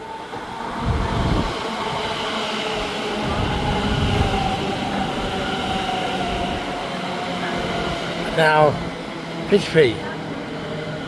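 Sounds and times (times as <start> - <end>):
train rumbling: 0.0 - 11.0
train whine: 0.0 - 11.0.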